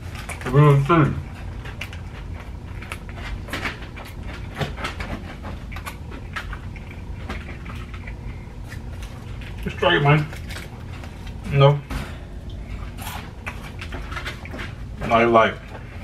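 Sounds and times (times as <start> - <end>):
close-up chewing: 0.0 - 16.0
low steady hum: 0.0 - 16.0.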